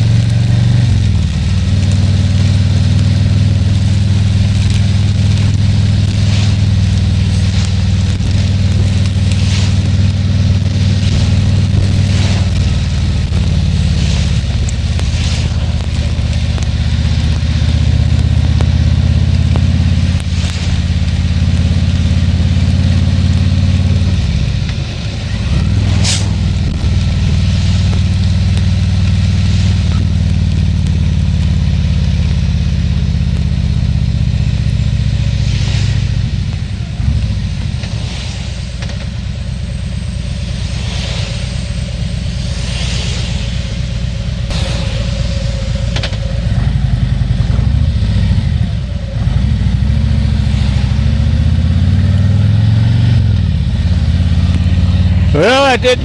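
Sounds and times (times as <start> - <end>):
motorcycle engine running: 0.0 - 56.0
wind and road hiss: 0.0 - 56.0.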